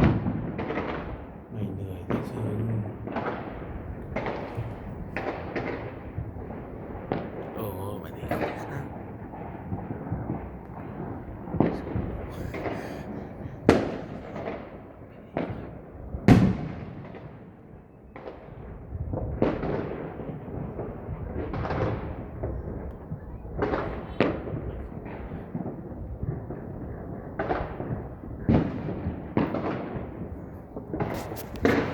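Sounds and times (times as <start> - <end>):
distant fireworks bangs: 0.0 - 31.9
fireworks bursting with echo: 0.0 - 31.9.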